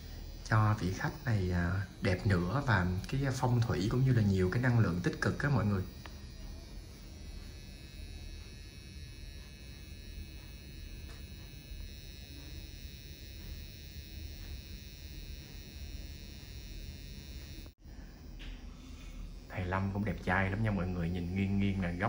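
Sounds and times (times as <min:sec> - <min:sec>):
tattoo pen buzzing: 0:00.0 - 0:17.8, 0:19.8 - 0:22.0.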